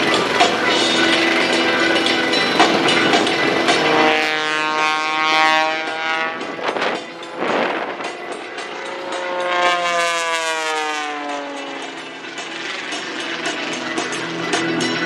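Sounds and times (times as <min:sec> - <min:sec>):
rushing air noise: 0:00.0 - 0:14.3
propeller plane engine buzzing: 0:00.0 - 0:15.0.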